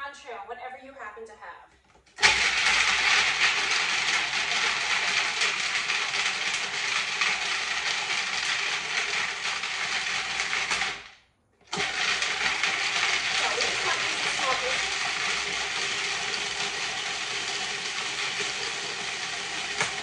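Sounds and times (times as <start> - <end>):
food processor chopping nuts: 2.2 - 20.0.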